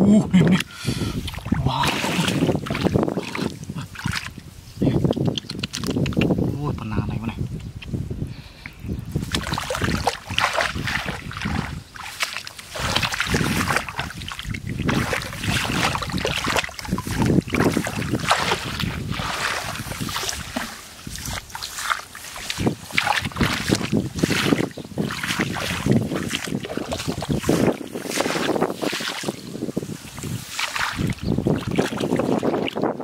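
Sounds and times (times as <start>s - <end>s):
shallow water splashing and sloshing: 1.0s - 4.6s, 9.1s - 33.0s.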